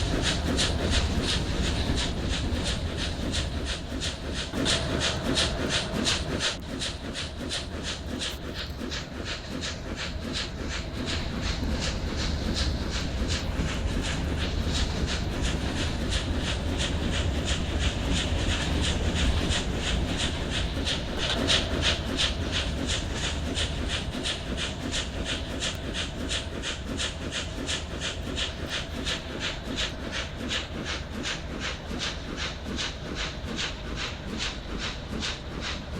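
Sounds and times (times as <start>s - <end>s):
train rumble: 0.0s - 35.9s
train wheels clicking over rail joints: 0.0s - 35.9s.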